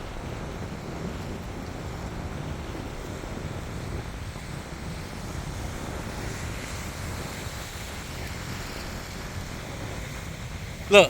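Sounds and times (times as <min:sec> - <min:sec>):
surf washing on beach: 0:00.0 - 0:11.0
wind buffeting microphone: 0:00.0 - 0:11.0.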